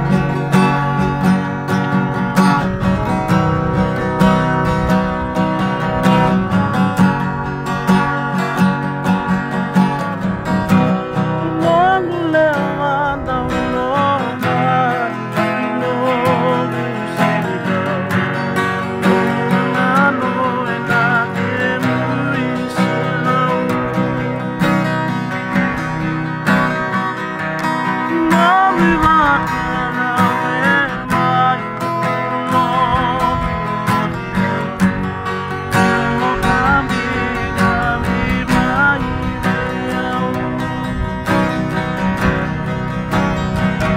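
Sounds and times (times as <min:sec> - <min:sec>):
acoustic guitars strumming: 0:00.0 - 0:43.9.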